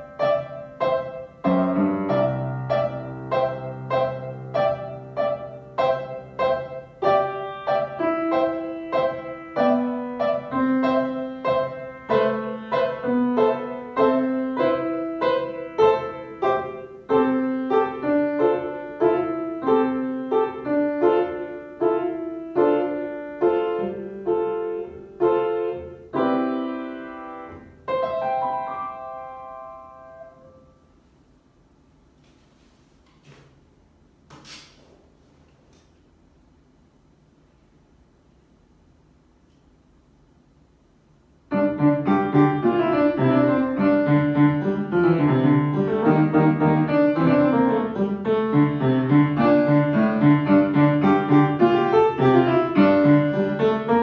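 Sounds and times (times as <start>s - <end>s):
upright piano playing: 0.0s - 30.8s, 41.5s - 54.0s.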